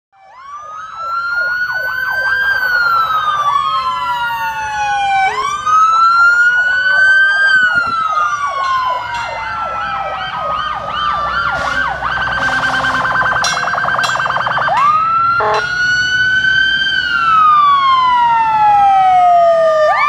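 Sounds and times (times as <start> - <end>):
siren wailing: 0.2 - 20.0
siren yelping: 0.2 - 20.0.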